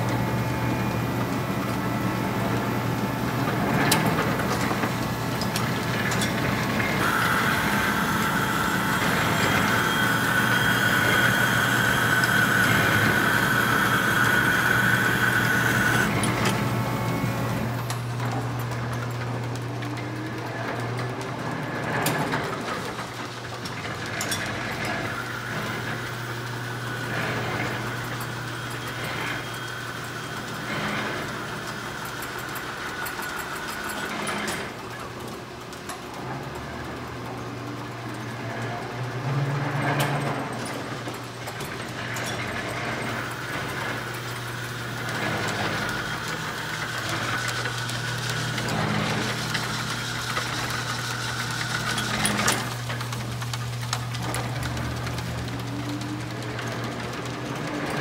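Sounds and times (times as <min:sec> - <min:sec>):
metal planer drive hum: 0:00.0 - 0:35.8, 0:36.6 - 0:58.0
clatter of gears: 0:03.3 - 0:58.0.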